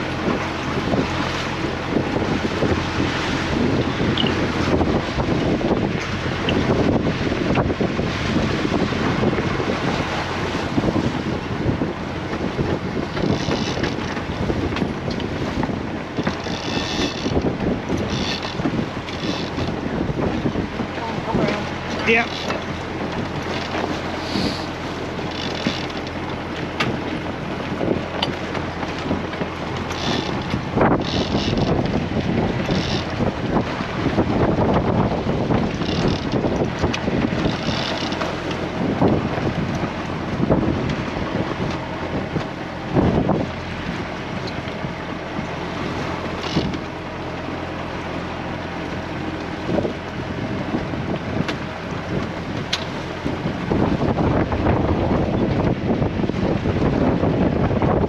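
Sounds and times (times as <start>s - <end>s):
water rushing along hull: 0.0s - 58.0s
wind buffeting microphone: 0.0s - 58.0s.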